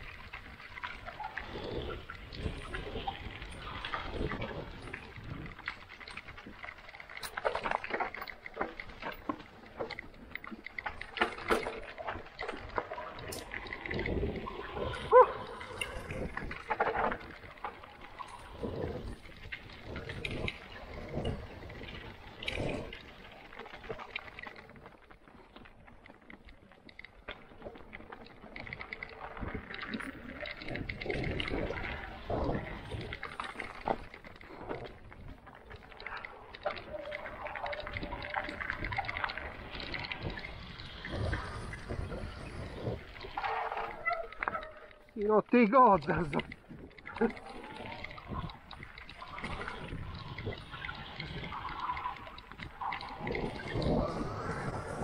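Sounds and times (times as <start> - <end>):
bike tyres rolling over soil: 0.0 - 55.0.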